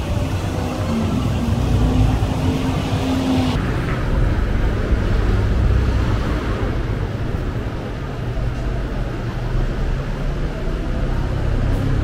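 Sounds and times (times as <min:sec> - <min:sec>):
street traffic rumble: 0:00.0 - 0:12.0
vehicle engine humming: 0:00.0 - 0:12.0.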